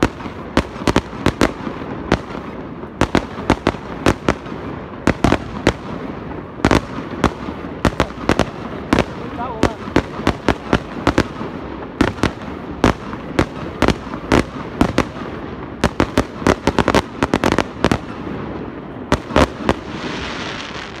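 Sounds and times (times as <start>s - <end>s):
fireworks banging: 0.0s - 21.0s
hissing crackle: 0.0s - 21.0s.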